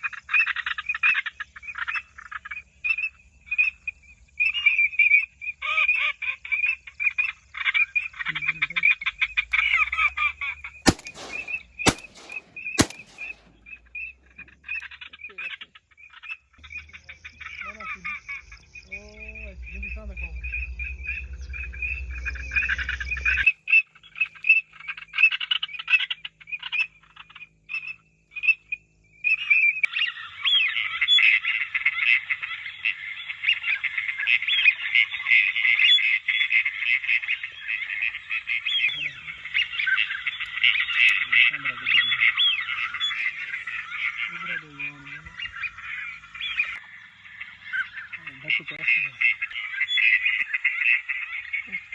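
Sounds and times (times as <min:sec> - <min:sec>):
chorus of chirps and croaks: 0:00.0 - 0:09.8, 0:10.9 - 0:13.6, 0:14.4 - 0:51.9.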